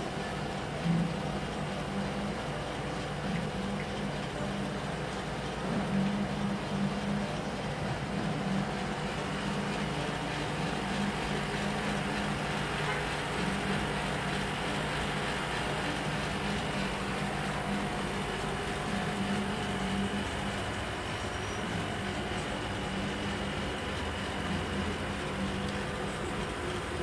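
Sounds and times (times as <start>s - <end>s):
constant rushing noise: 0.0s - 27.0s
low mechanical hum: 0.0s - 27.0s.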